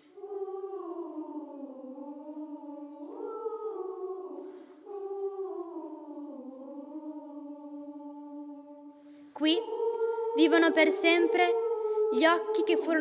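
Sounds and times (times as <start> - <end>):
children's choir humming: 0.0 - 13.0.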